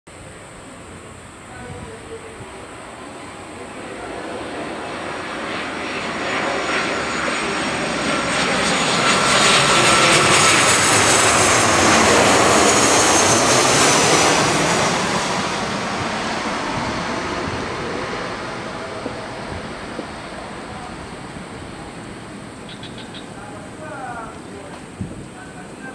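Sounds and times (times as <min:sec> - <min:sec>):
jet airliner passing: 0:00.1 - 0:25.9
jet engine high whine: 0:00.1 - 0:25.9.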